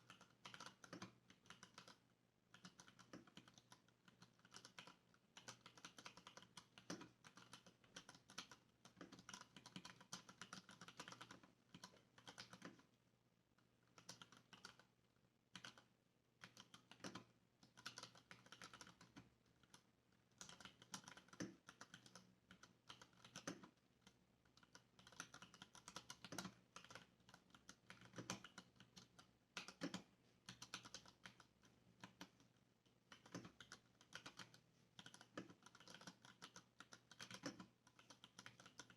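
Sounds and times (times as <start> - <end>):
mechanical keyboard typing: 0.0 - 12.9, 13.8 - 14.9, 15.5 - 32.4, 33.0 - 38.9.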